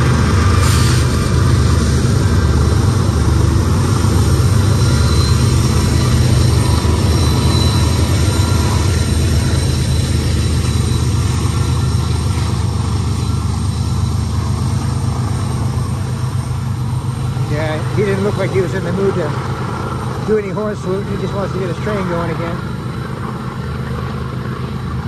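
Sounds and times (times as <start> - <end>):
diesel locomotive engine drone: 0.0 - 25.0.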